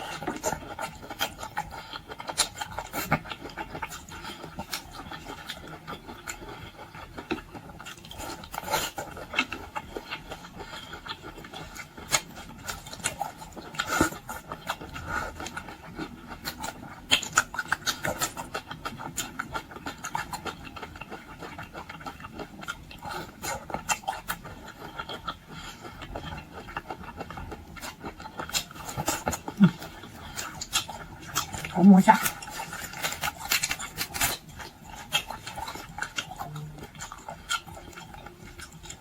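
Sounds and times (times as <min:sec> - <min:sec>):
person chewing seafood: 0:00.0 - 0:39.0.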